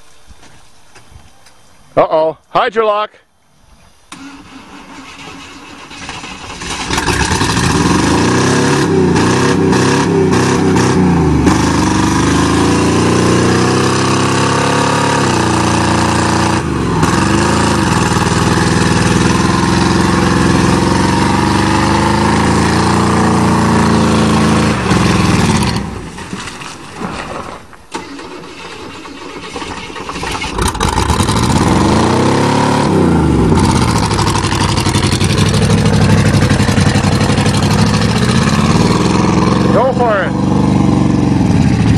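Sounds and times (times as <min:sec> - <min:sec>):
truck engine revving hard: 0:04.1 - 0:26.2, 0:28.0 - 0:41.9.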